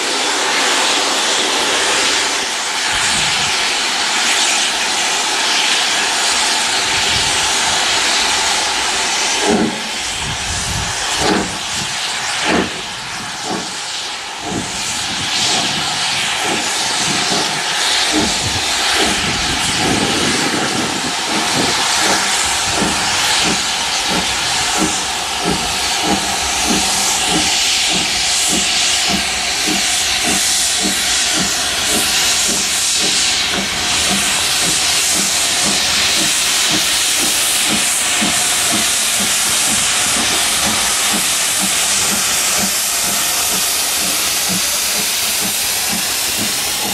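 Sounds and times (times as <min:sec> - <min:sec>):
steam hissing: 0:00.0 - 0:46.9
steam locomotive exhaust beats: 0:00.0 - 0:46.9.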